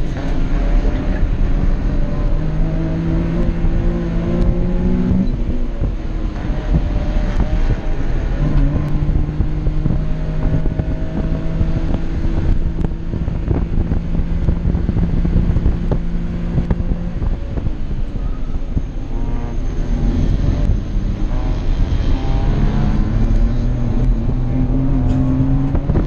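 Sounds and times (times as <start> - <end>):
car engine revving high: 0.0 - 26.0
road noise: 0.0 - 26.0.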